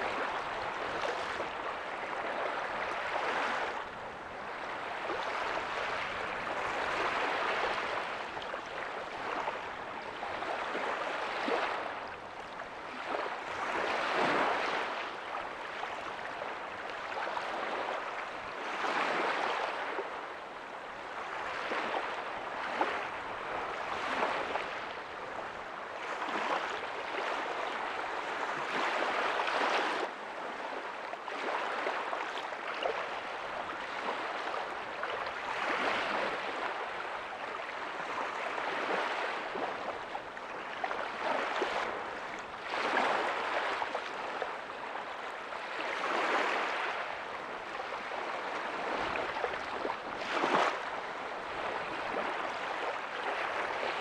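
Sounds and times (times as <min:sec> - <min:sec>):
ocean waves breaking softly: 0:00.0 - 0:54.0.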